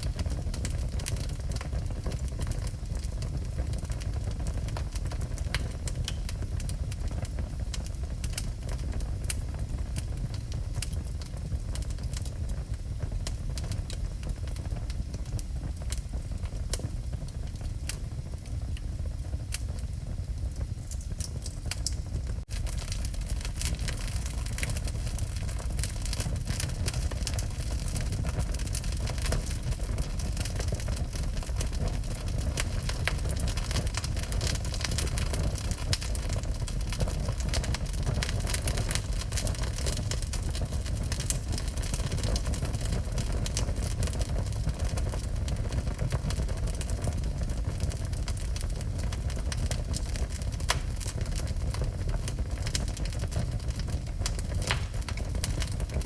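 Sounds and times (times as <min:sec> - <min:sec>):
fire flames rumbling: 0:00.0 - 0:56.0
wood crackling and popping: 0:00.0 - 0:56.0.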